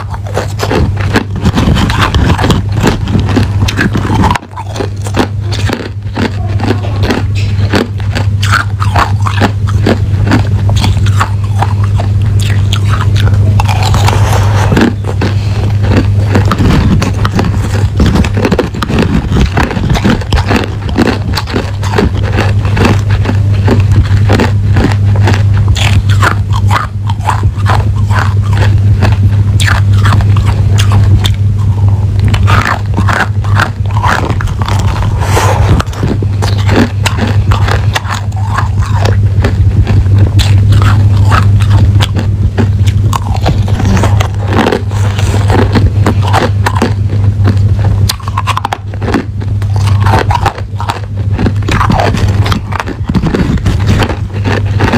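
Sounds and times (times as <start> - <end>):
ice being crunched and chewed: 0.0 - 54.9
low hum: 0.0 - 54.9.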